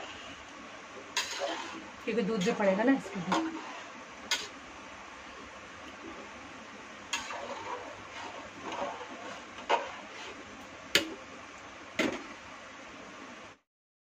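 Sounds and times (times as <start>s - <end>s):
faint steady hiss: 0.0s - 13.6s.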